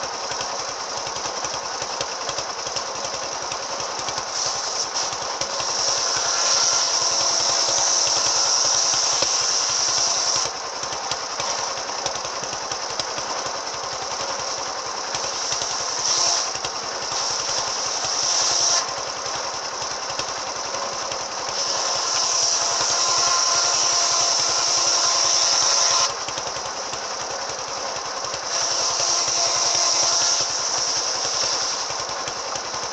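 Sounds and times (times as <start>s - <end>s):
engine thudding: 0.0s - 25.1s, 25.7s - 32.9s
saw blade whine: 0.0s - 32.9s.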